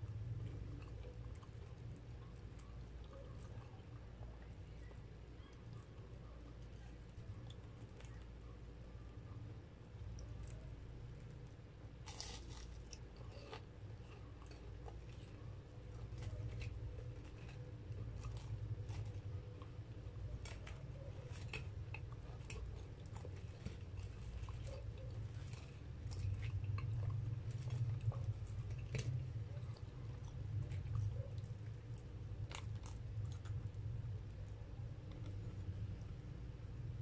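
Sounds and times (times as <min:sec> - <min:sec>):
chewing with crisp crunches: 0:00.0 - 0:37.0.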